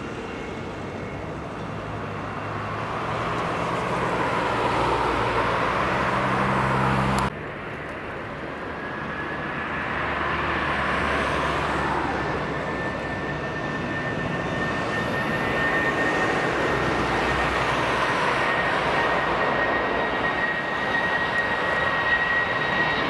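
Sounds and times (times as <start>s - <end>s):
jet engine rumble: 0.0s - 23.0s
jet engine whine rising: 0.0s - 23.0s.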